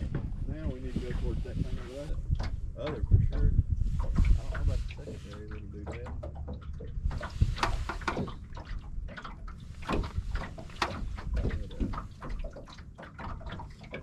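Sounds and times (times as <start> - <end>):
low rumble: 0.0 - 12.4
water lapping against boat hull: 0.0 - 14.0
small knocks and clicks: 2.3 - 14.0.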